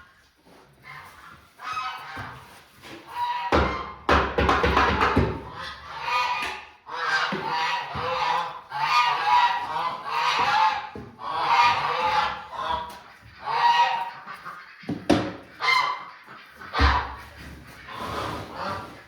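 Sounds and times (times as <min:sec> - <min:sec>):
geese honking: 0:00.8 - 0:04.0, 0:05.5 - 0:19.0.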